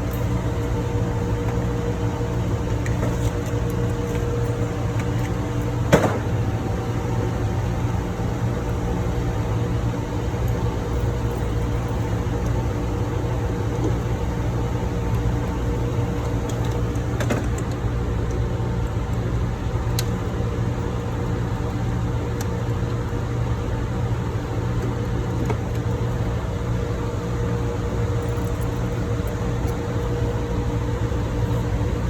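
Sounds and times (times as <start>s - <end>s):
engine room machinery drone: 0.0s - 32.0s.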